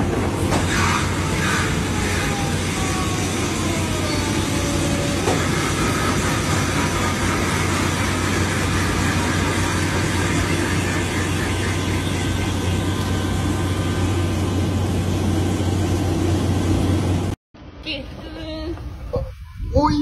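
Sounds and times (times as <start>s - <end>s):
machinery drone with low hum: 0.0s - 20.0s.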